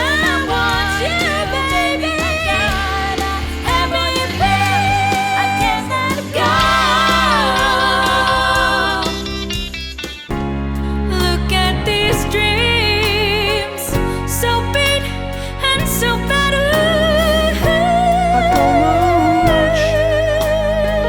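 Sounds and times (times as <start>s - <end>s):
band playing a song: 0.0s - 21.0s.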